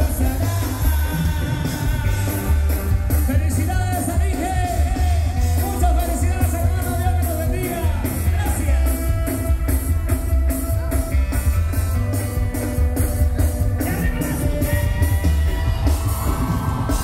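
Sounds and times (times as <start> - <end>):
live band music through pa: 0.0 - 17.0.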